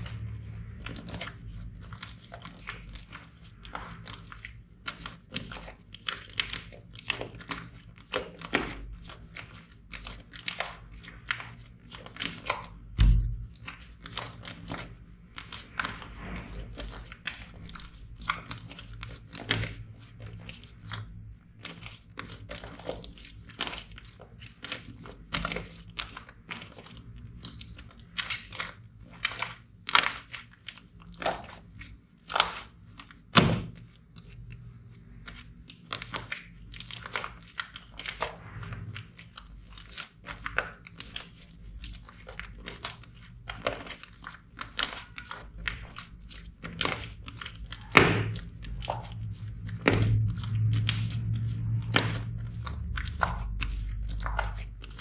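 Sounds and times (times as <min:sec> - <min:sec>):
slime squeezed crackling and popping: 0:00.0 - 0:55.0.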